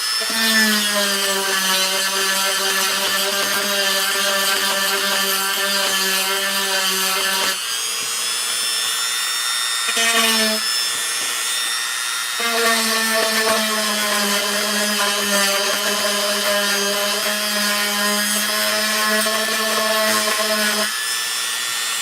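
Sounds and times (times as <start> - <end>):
small electric motor humming: 0.0 - 22.0.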